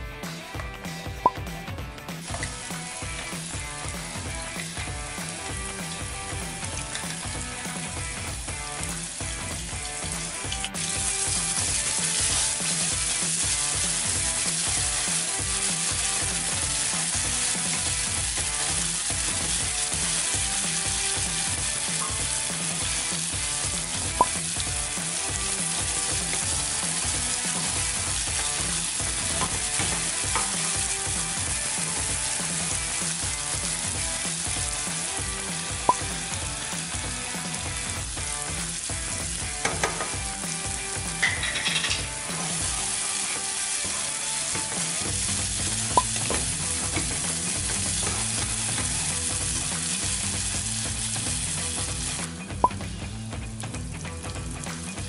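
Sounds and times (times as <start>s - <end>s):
spice paste sizzling in a pot: 0.0s - 55.0s
liquid being poured: 2.2s - 52.3s.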